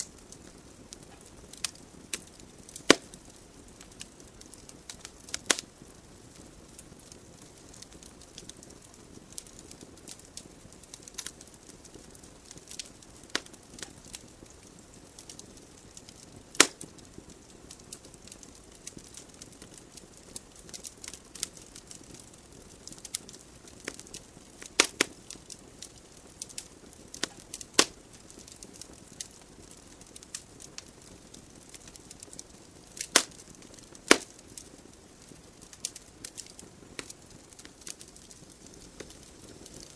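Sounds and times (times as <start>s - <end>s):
flames hissing: 0.0s - 39.9s
logs crackling and popping: 0.0s - 39.9s.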